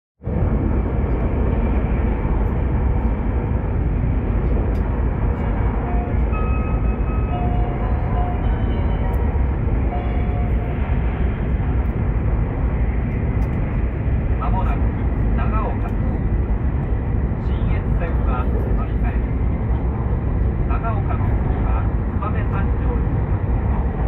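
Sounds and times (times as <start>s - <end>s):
train rumble inside cabin: 0.2s - 24.0s.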